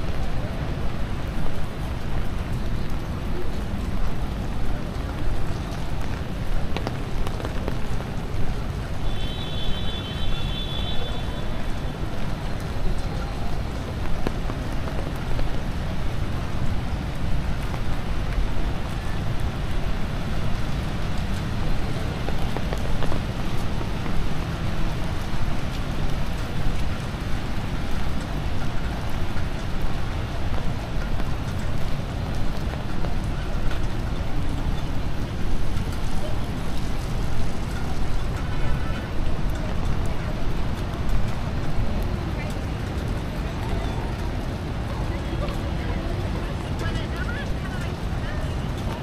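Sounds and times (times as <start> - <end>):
rain on wet pavement: 0.0 - 49.0.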